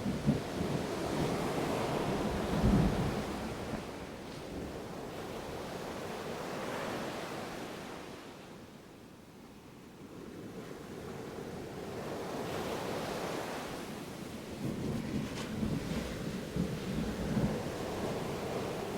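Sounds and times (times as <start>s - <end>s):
ocean surf washing: 0.0s - 8.4s, 10.4s - 18.9s.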